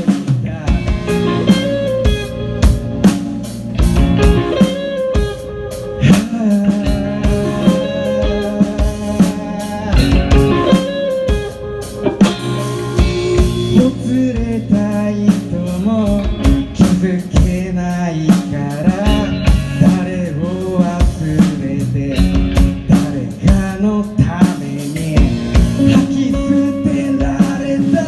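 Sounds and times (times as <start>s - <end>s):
drum kit beat: 0.0s - 28.0s
rock band guitar: 0.0s - 28.0s.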